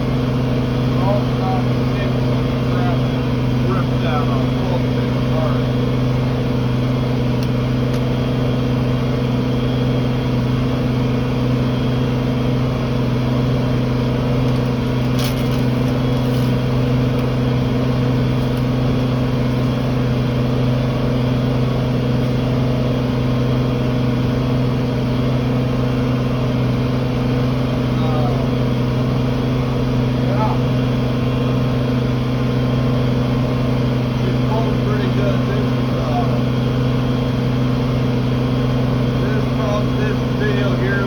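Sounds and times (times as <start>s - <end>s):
tractor engine droning: 0.0s - 41.0s.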